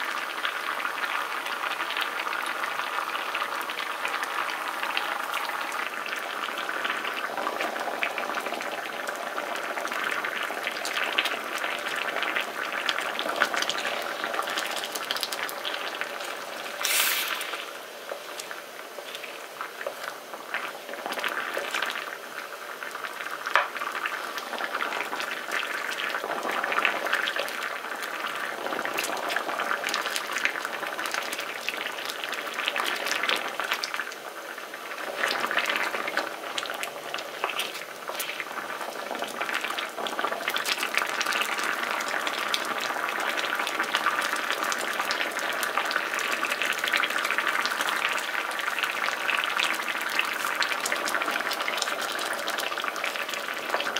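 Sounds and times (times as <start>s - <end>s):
thick sauce bubbling: 0.1s - 53.9s.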